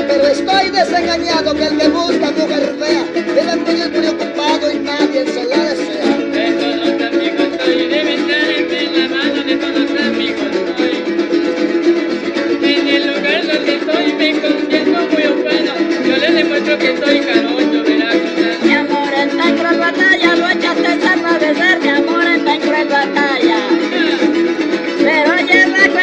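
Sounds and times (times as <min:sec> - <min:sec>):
plucked harp: 0:00.0 - 0:26.0
strummed small guitars: 0:00.0 - 0:26.0.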